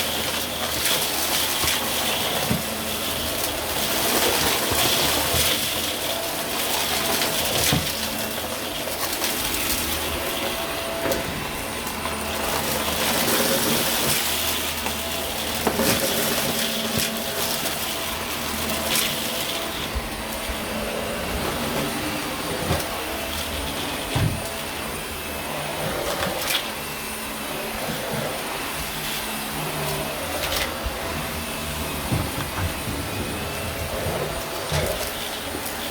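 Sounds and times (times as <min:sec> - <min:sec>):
vacuum cleaner whining on carpet: 0:00.0 - 0:35.9.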